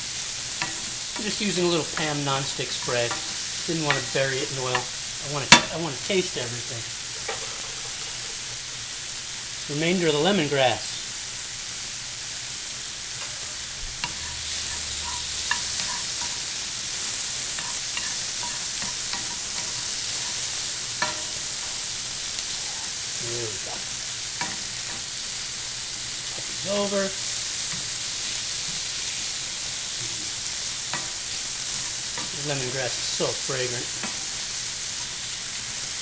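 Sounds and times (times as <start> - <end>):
shrimp sizzling in a frying pan: 0.0 - 36.0.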